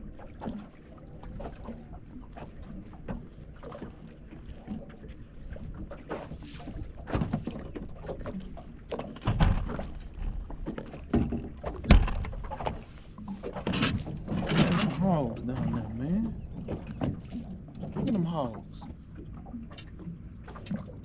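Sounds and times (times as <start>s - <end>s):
knocks and thumps on boat: 0.0s - 21.0s.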